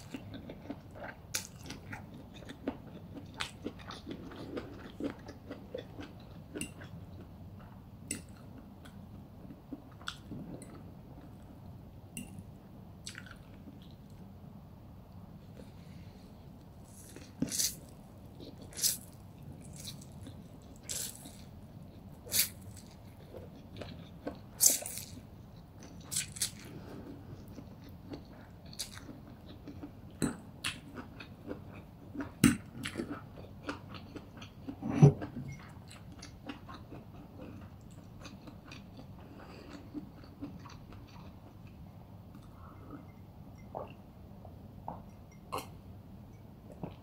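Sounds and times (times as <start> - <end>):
chewing and crunching noodles: 0.0 - 11.6, 12.2 - 14.2, 16.7 - 44.0.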